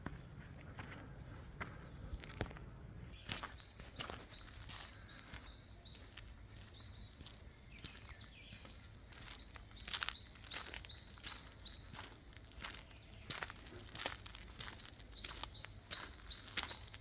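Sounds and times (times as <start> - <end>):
footsteps on a path: 0.0 - 17.0.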